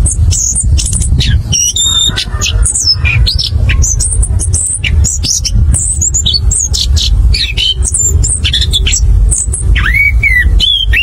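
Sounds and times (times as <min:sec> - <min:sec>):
low rumble: 0:00.0 - 0:11.0
thrush singing chirps and whistles: 0:00.0 - 0:11.0.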